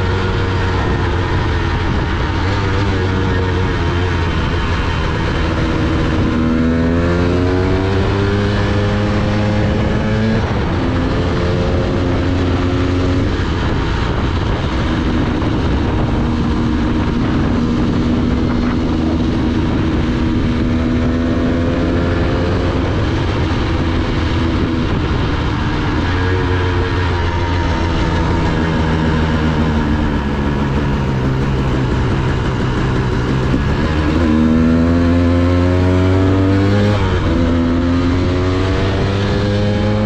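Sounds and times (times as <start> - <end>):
dirt bike engine: 0.0 - 40.0
wind rushing: 0.0 - 40.0.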